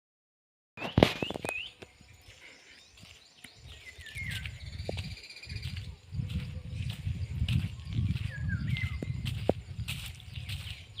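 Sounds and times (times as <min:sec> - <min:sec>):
birds chirping: 0:00.8 - 0:11.0.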